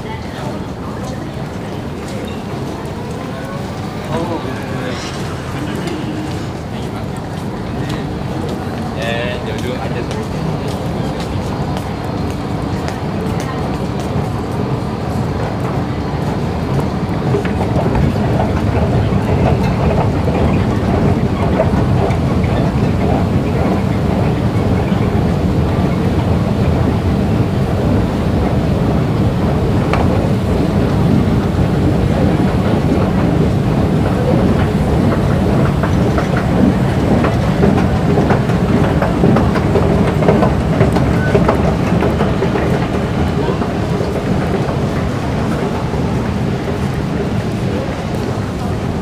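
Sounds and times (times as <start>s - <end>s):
escalator rumbling and clicking: 0.4s - 49.0s.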